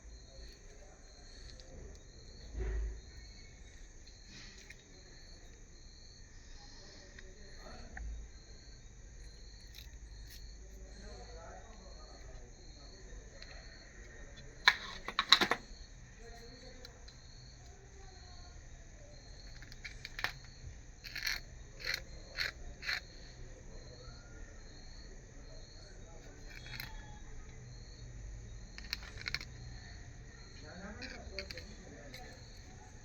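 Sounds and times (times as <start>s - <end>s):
cricket chirping: 0.0s - 33.0s.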